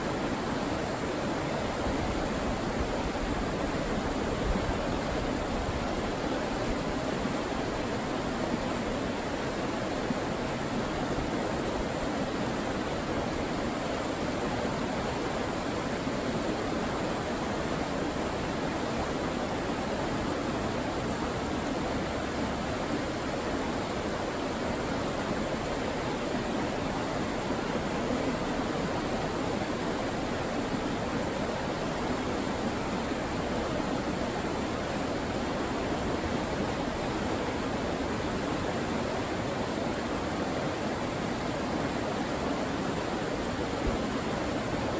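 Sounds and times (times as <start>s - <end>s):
river rapids rushing: 0.0s - 44.9s.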